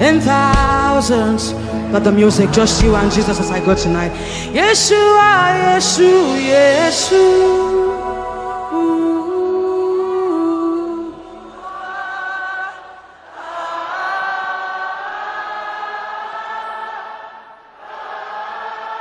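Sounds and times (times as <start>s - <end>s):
choir and congregation singing: 2.0s - 19.0s.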